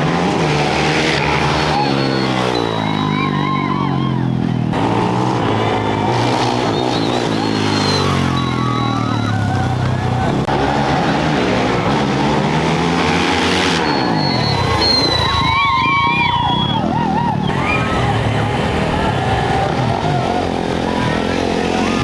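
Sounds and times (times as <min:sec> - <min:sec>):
motorcycle engines revving: 0:00.0 - 0:22.0
onlookers calling: 0:00.3 - 0:22.0.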